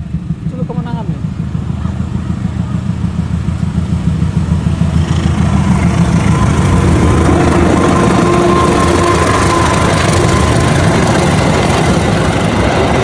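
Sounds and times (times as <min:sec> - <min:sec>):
locomotive diesel engine rumble: 0:00.0 - 0:13.0.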